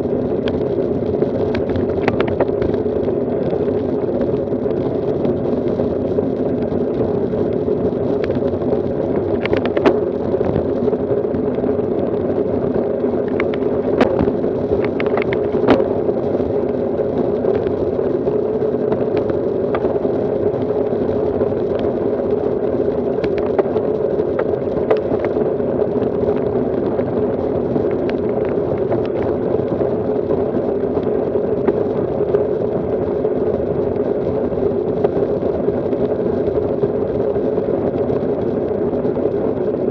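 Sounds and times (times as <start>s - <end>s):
bicycle tyre noise: 0.0s - 39.9s
wind rushing over microphone: 0.0s - 39.9s.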